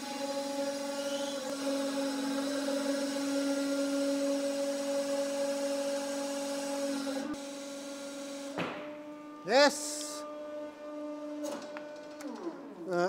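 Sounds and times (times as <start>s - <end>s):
hydraulic pump whine: 0.0s - 13.0s.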